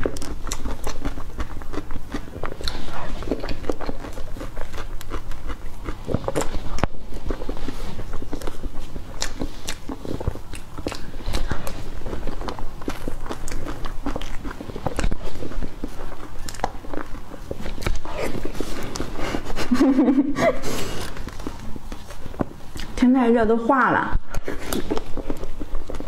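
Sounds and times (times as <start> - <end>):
wet chewing and lip smacking: 0.0 - 23.0, 24.2 - 26.0.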